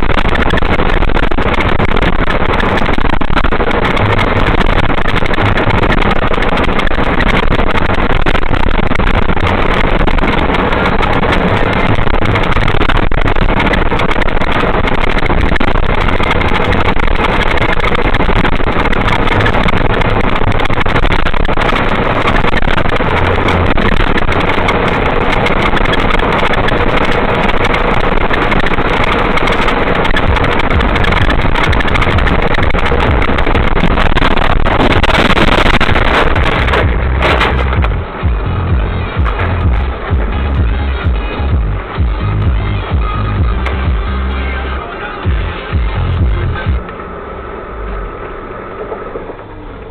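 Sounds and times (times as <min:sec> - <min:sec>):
car road and engine noise: 0:00.0 - 0:49.9.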